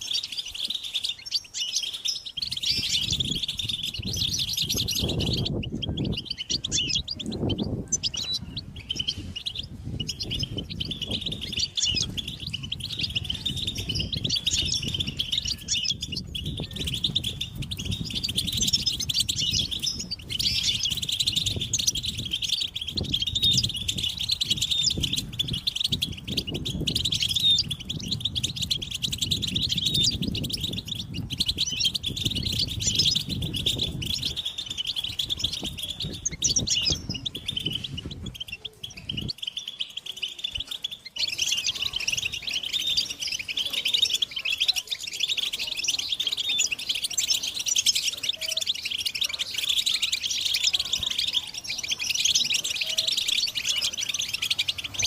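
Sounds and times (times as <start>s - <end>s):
finches twittering: 0.0s - 55.0s.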